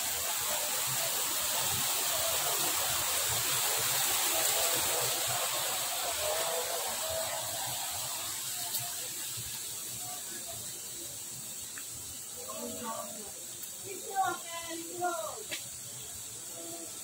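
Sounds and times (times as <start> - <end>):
faint high hiss: 0.0 - 17.0
water rushing: 0.0 - 17.0.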